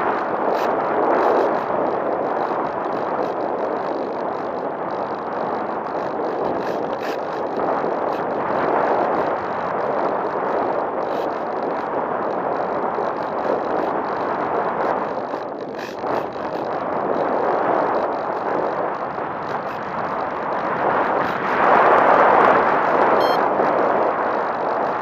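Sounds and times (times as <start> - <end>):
air rushing over camera: 0.0 - 25.0.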